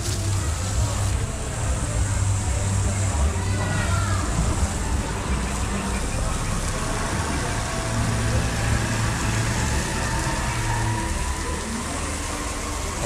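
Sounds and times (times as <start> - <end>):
low motor hum: 0.0 - 13.0
steady rush of water: 0.0 - 13.0.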